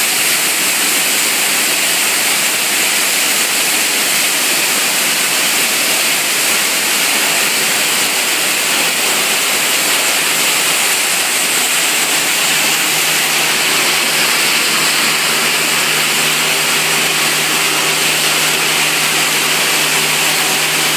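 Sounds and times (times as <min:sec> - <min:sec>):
washing machine rushing noise: 0:00.0 - 0:20.9.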